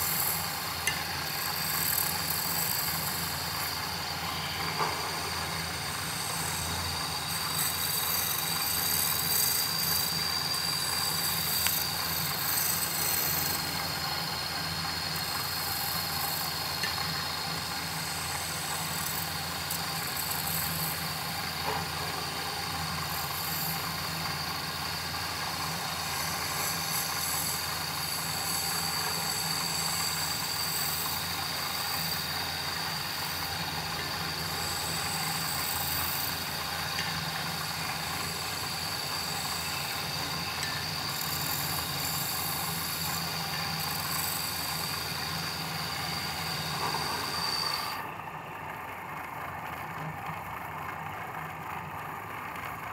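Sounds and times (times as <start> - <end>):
lathe motor whining hum: 0.0 - 52.9.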